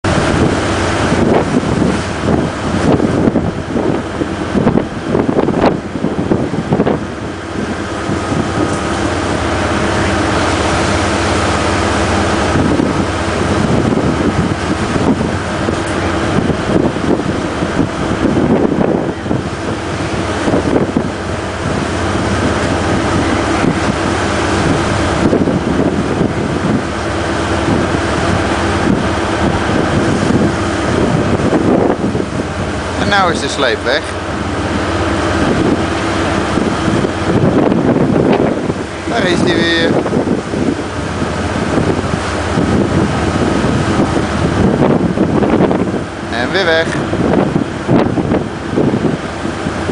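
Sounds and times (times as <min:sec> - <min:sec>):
rough sea rushing: 0:00.0 - 0:49.9
tugboat engines droning: 0:00.0 - 0:49.9
wind buffeting microphone: 0:00.0 - 0:49.9.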